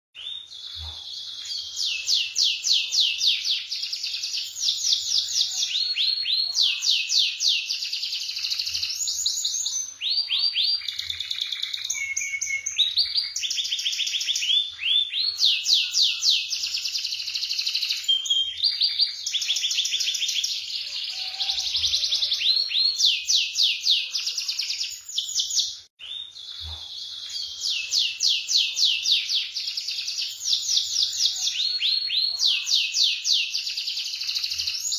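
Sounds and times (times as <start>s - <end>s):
canary trilling: 0.2s - 34.9s.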